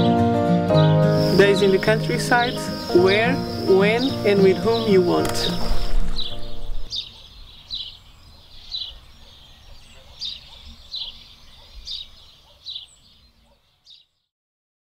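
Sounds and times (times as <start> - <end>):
faint outdoor ambience: 0.0 - 14.1
bird chirping: 0.0 - 14.3.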